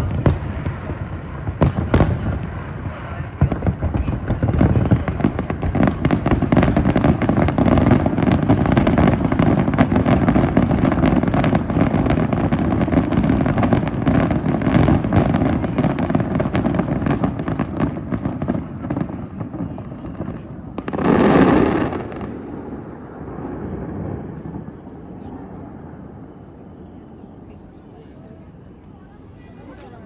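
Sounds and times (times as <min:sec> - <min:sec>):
fireworks crackling pops: 0:00.0 - 0:25.0
fireworks booms: 0:00.0 - 0:27.4.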